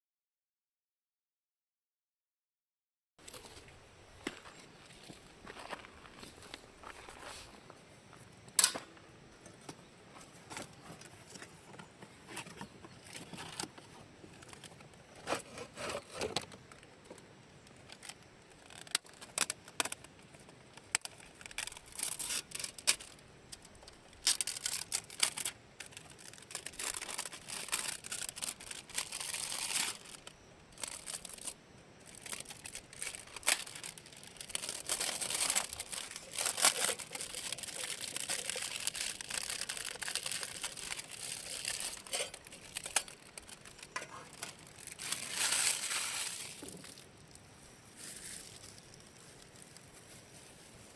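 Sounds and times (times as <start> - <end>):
rustling and crinkling: 3.2 - 50.9.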